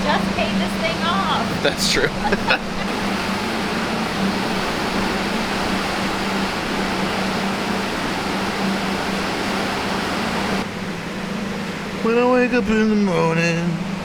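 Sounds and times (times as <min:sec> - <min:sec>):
low wavering hum: 0:00.0 - 0:14.0
steady rushing noise: 0:00.0 - 0:14.0.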